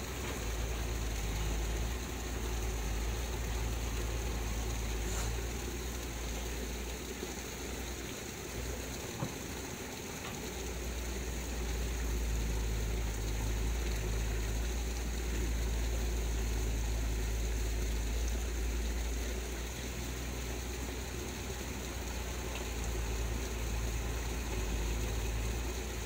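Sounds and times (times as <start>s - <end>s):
stream flowing past rocks: 0.0s - 26.0s.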